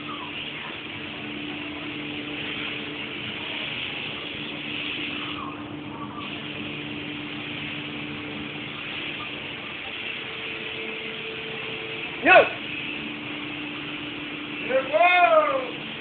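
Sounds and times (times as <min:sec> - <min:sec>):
motor hum: 0:00.0 - 0:16.0
paint spray gun hissing: 0:00.0 - 0:16.0.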